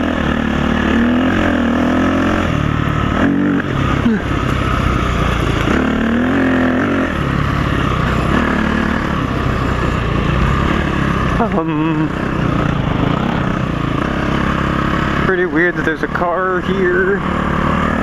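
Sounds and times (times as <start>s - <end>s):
off-road bike engine revving: 0.0s - 18.0s.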